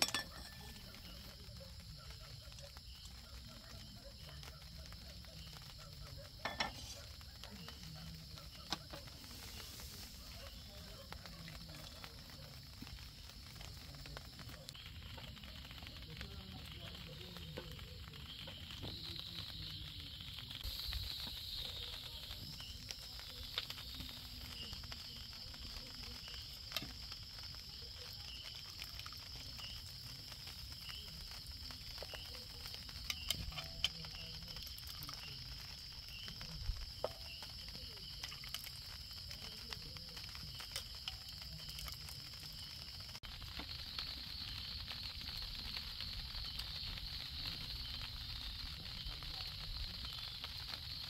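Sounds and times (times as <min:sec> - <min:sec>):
night insects chirping: 0:00.0 - 0:51.0.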